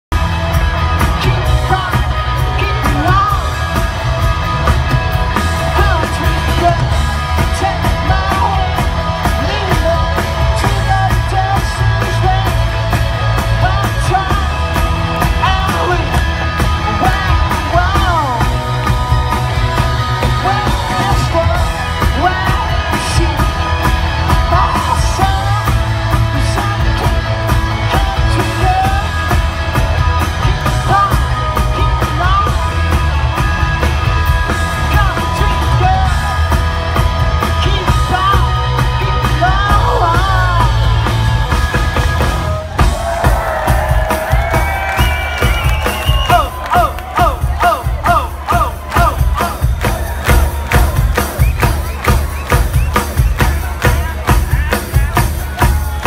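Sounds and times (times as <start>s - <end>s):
live rock band playing: 0.0s - 56.0s
steady drum beat: 0.1s - 56.0s
person singing: 1.0s - 43.0s, 45.4s - 56.0s.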